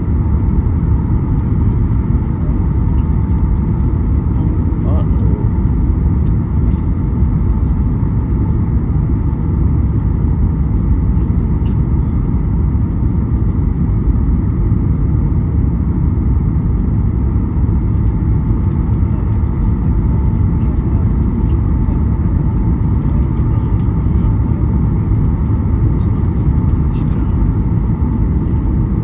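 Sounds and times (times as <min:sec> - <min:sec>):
jet engine low rumble: 0:00.0 - 0:29.0.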